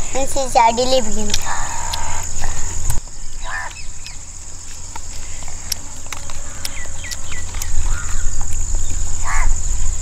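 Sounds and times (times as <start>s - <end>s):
insects droning: 0.0s - 10.0s
short chirping calls: 1.1s - 10.0s.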